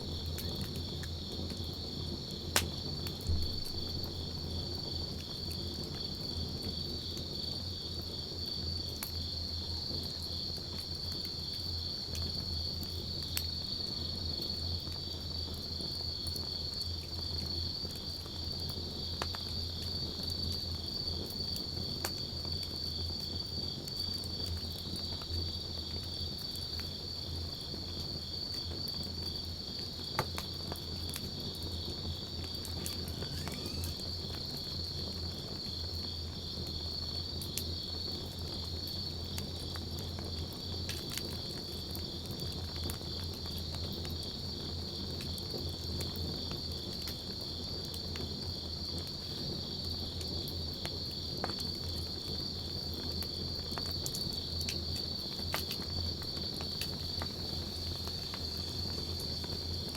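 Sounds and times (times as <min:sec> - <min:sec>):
campfire crackling and popping: 0:00.0 - 0:47.2, 0:50.2 - 0:59.9
crickets chirring: 0:00.0 - 0:59.9.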